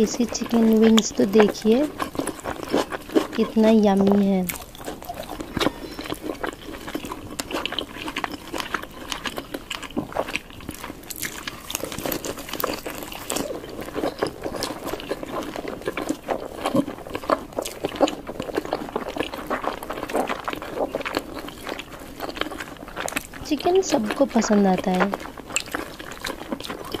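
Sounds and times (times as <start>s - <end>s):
biting and chewing: 0.0s - 27.0s.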